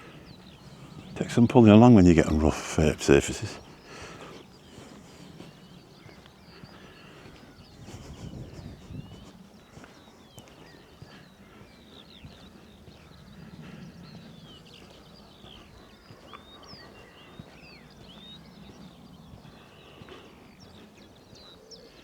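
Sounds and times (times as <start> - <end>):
small birds chirping and trilling: 0.0 - 22.0.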